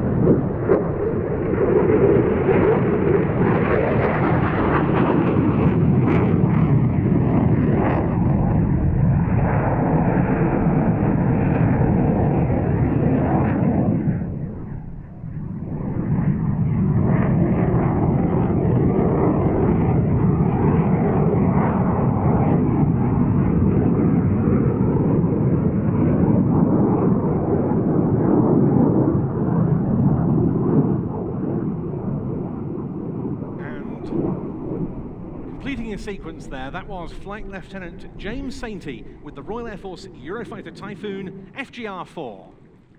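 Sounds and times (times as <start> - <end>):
fighter jet roaring: 0.0 - 42.8.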